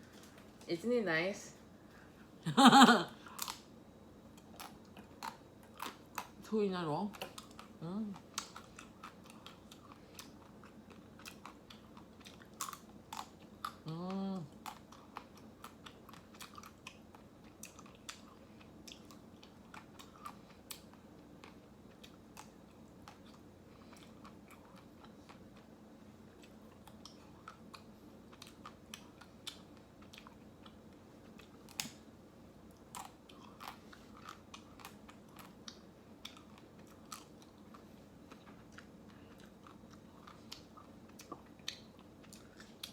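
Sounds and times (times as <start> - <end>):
chewing ice cream: 3.2 - 42.9.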